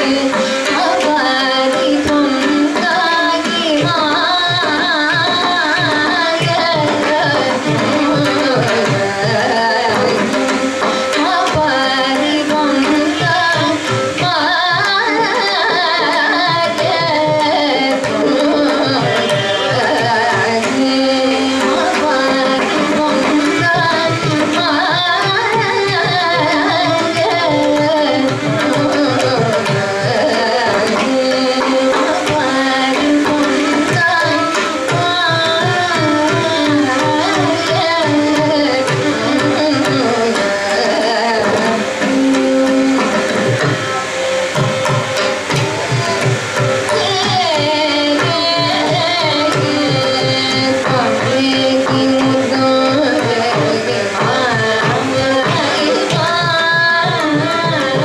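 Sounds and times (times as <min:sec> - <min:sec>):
hand drum strokes: 0:00.0 - 0:58.0
violin: 0:00.0 - 0:58.0
woman singing: 0:00.0 - 0:58.0.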